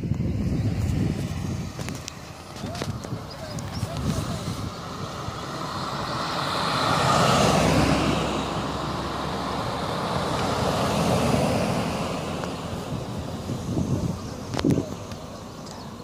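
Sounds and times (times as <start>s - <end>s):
cars driving past: 0.7s - 16.0s.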